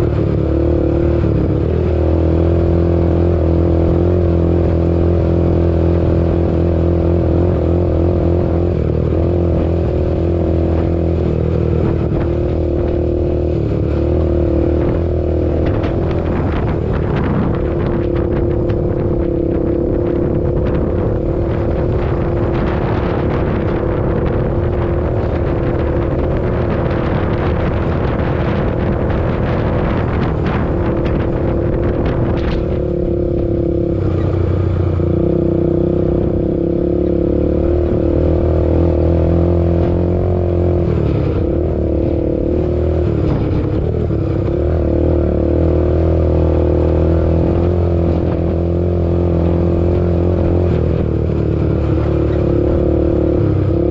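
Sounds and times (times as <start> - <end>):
quad bike engine running: 0.0 - 53.9.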